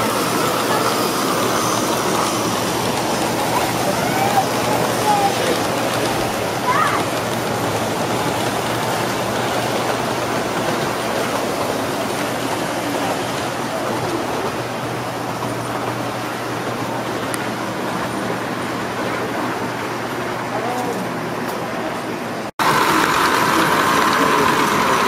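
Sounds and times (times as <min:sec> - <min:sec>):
model trains whirring on track: 0:00.0 - 0:25.0.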